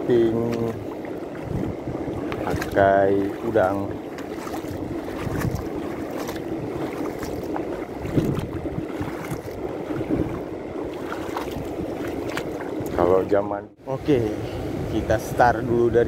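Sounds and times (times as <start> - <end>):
wind noise on microphone: 0.0 - 13.2, 14.3 - 15.6
shallow sea water washing: 0.0 - 13.4.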